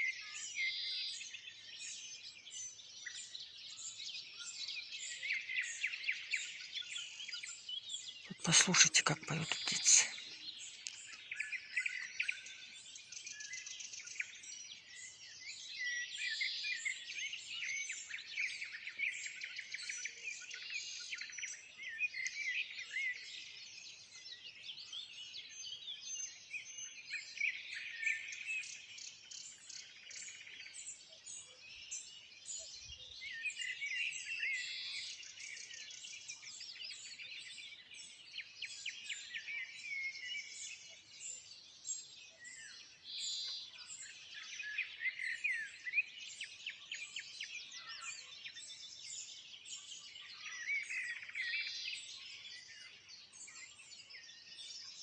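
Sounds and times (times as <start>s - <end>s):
bird chorus: 0.0s - 55.0s.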